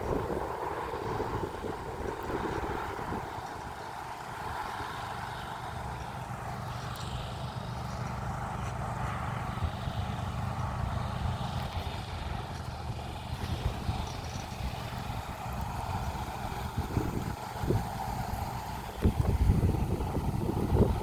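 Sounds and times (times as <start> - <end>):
steady hum: 0.0 - 21.0
train low rumble: 0.0 - 21.0.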